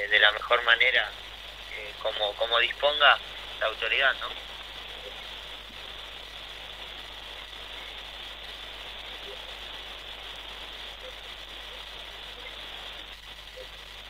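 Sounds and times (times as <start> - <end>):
low steady hum: 0.0 - 14.0
telephone line hiss: 0.0 - 14.0.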